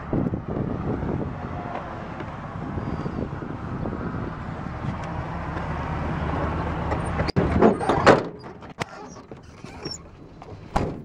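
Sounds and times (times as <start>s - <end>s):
wind and vehicle rumble: 0.0s - 11.0s.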